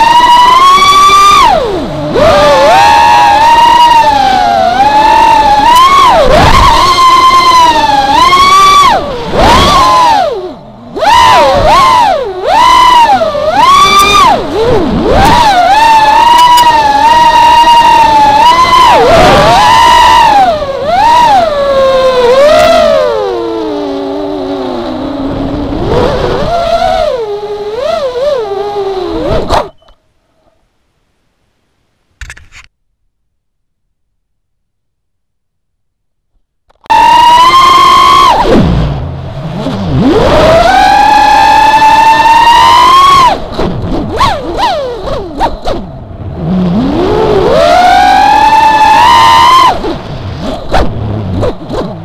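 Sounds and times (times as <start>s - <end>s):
quadcopter motors whining: 0.0s - 29.8s, 36.9s - 38.6s, 39.6s - 50.7s.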